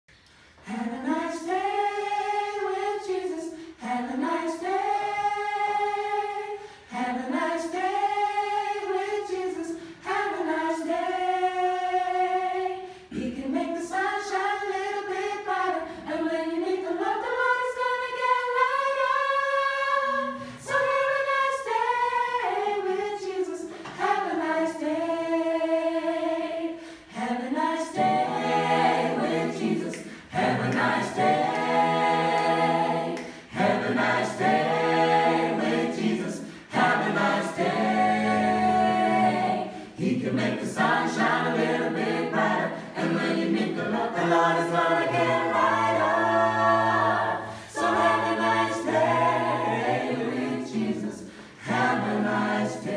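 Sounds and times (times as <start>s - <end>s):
group singing a cappella: 0.1s - 52.9s.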